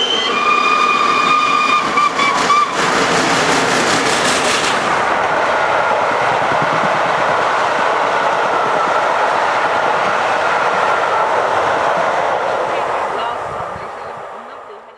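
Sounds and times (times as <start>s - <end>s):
train wheels rolling on rails: 0.0s - 14.8s.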